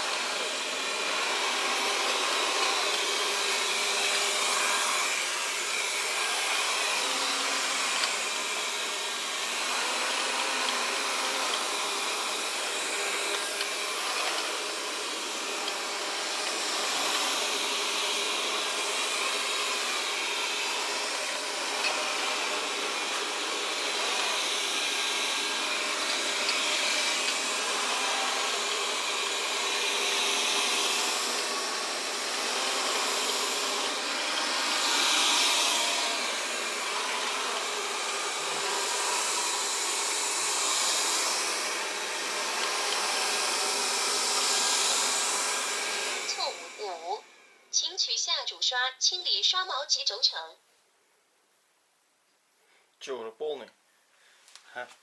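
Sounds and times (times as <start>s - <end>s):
robot vacuum fan whir: 0.0s - 48.7s.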